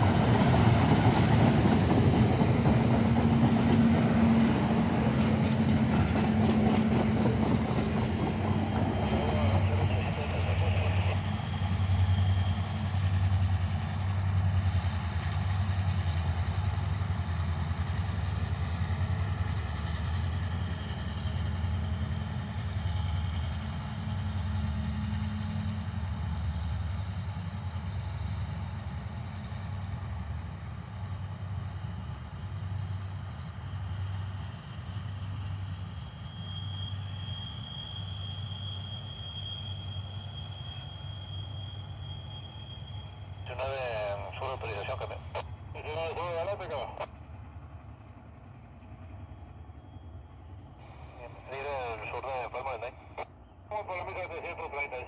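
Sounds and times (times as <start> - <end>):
distant train rumble: 0.0 - 55.0.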